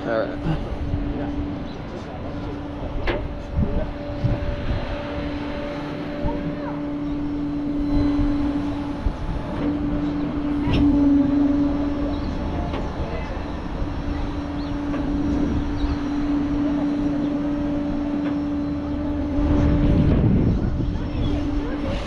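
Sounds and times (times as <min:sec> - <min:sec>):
low rumble: 0:00.0 - 0:22.0
vehicle engine humming: 0:00.0 - 0:22.0.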